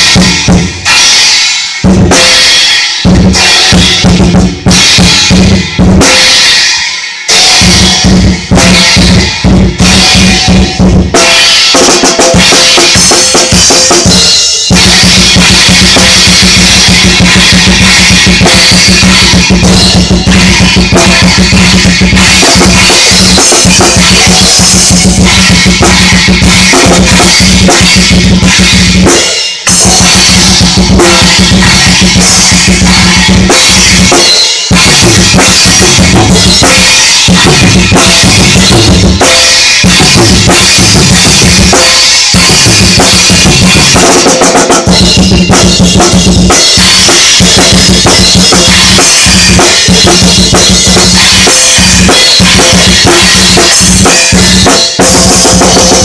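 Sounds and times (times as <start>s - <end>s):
loud fast drum kit: 0.0s - 56.0s.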